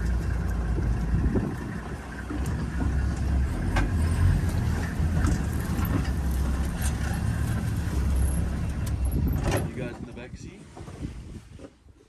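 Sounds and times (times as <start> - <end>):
vehicle engine rumbling: 0.0 - 10.3.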